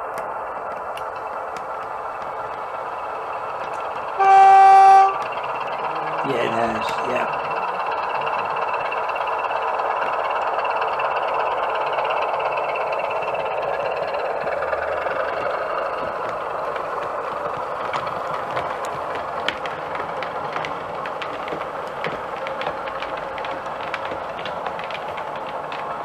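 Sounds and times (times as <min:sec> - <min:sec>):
model locomotive diesel engine sound: 0:00.0 - 0:26.0
wheels clicking over rail joints: 0:00.0 - 0:26.0.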